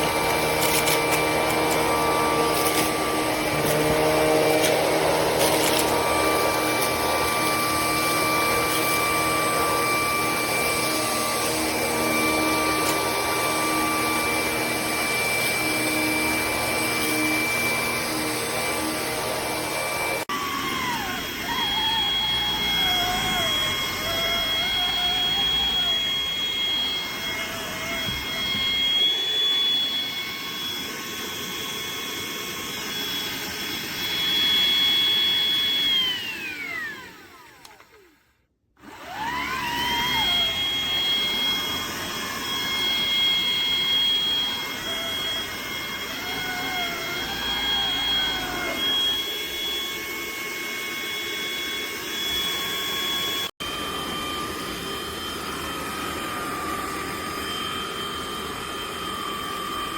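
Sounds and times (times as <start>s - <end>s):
vacuum cleaner whining: 0.0s - 59.9s.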